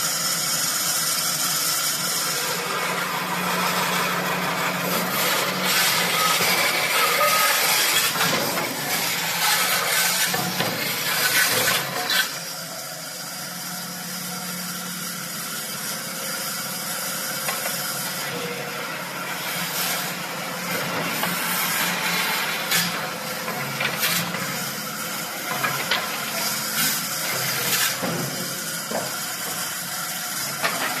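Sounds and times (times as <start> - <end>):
saw machine motor humming: 0.0 - 31.0.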